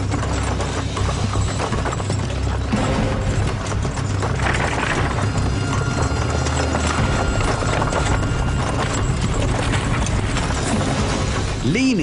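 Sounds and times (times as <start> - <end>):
hoofbeats clattering: 0.0 - 12.0.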